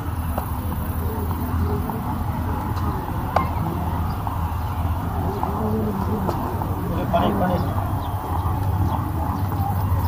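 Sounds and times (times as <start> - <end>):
faint distant voices: 0.0 - 10.0.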